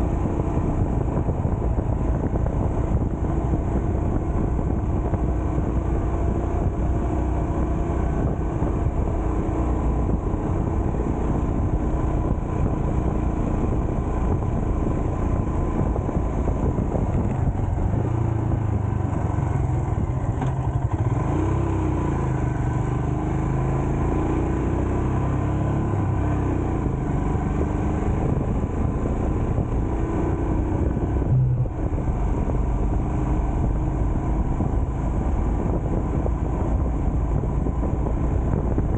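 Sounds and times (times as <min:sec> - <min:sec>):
road and wind noise: 0:00.0 - 0:38.9
vehicle engine hum: 0:00.0 - 0:38.9.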